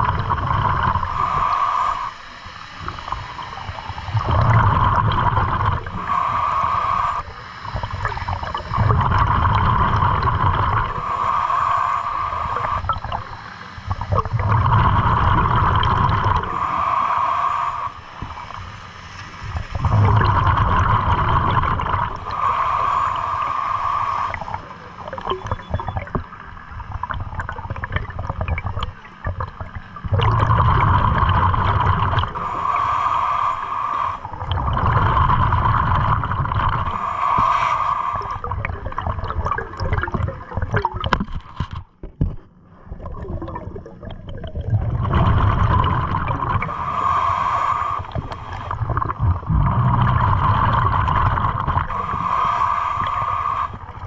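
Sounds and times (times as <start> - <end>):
underwater breath bubbling: 0.0 - 41.8, 42.8 - 54.0.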